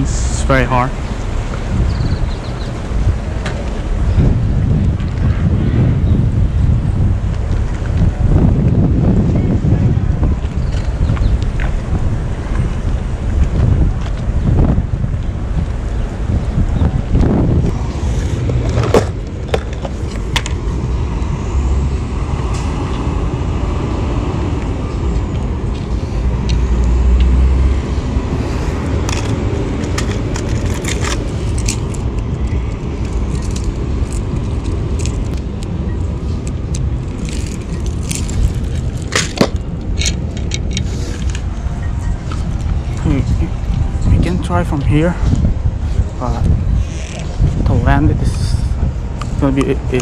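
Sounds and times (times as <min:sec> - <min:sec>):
wind rumbling on microphone: 0:00.0 - 0:50.0.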